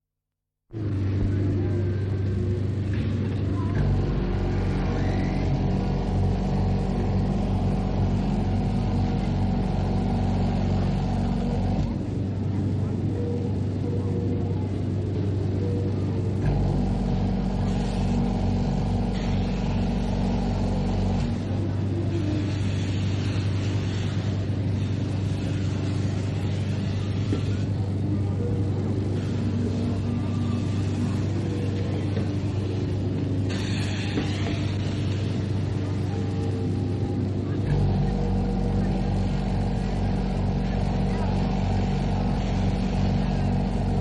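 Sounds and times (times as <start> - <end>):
carousel ride mechanical hum: 0.7 - 44.0.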